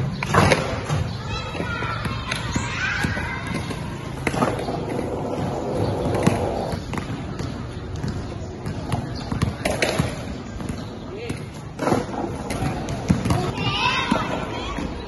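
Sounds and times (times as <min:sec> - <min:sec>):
basketballs bouncing on court: 0:00.0 - 0:15.0.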